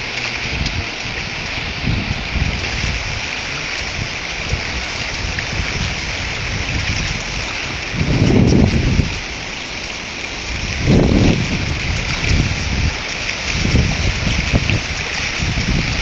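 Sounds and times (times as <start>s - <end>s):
floodwater rushing: 0.0s - 16.0s
wind buffeting microphone: 0.0s - 16.0s.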